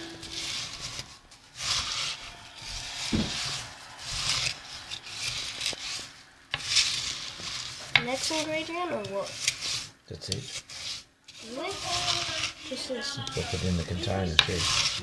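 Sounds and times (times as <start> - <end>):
spoon scraping cereal in bowl: 0.0 - 15.0.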